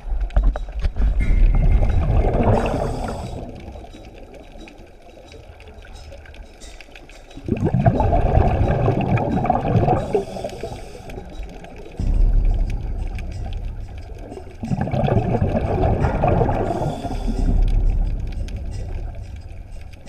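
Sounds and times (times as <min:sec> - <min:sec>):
underwater bubbling: 0:00.0 - 0:20.0.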